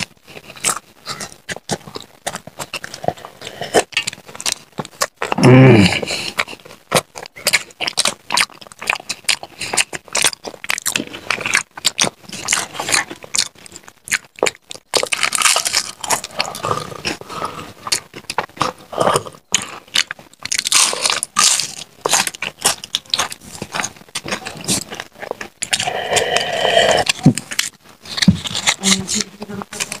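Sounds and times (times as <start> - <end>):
crunching crisp food: 0.0 - 30.0.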